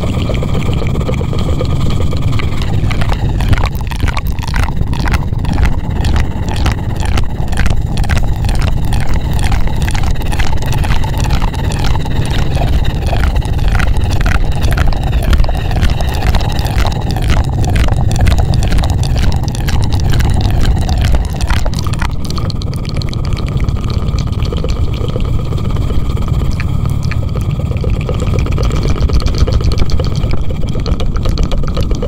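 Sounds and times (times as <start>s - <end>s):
low rumble with fast pulsing: 0.0s - 32.0s.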